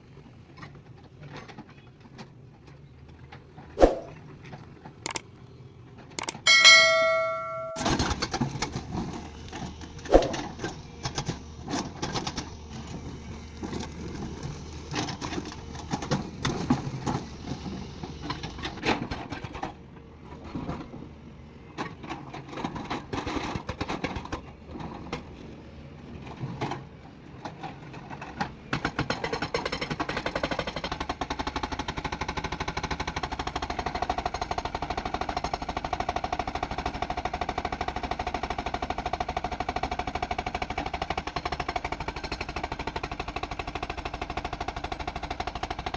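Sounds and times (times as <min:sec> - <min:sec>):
excavator engine hum: 0:00.2 - 0:29.3, 0:30.0 - 0:45.9.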